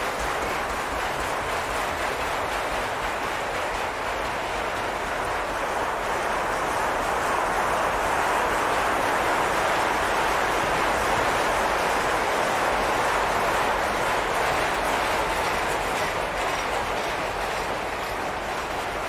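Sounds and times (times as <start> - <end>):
freight cars rolling on rails: 0.0 - 19.0.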